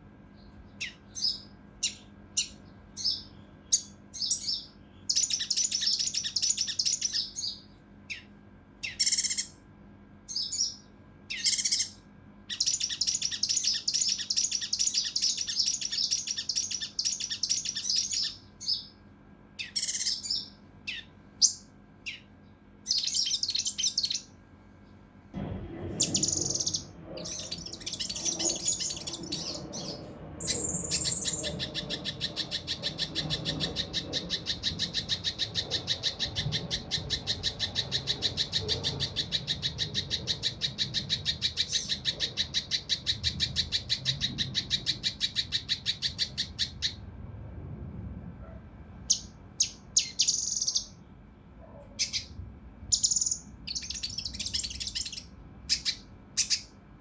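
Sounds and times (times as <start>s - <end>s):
harsh rapid bird notes: 0.3s - 9.6s, 10.3s - 19.0s, 19.6s - 24.3s, 25.9s - 47.0s, 49.1s - 51.0s, 52.0s - 56.8s
songbird singing: 0.3s - 9.6s, 10.2s - 19.0s, 19.6s - 24.4s, 26.0s - 47.0s, 49.1s - 51.0s, 51.8s - 56.8s.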